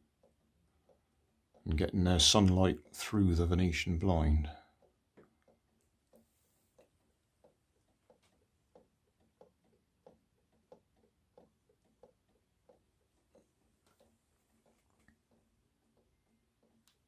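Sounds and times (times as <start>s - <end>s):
figurine mechanisms ticking: 0.0s - 17.0s.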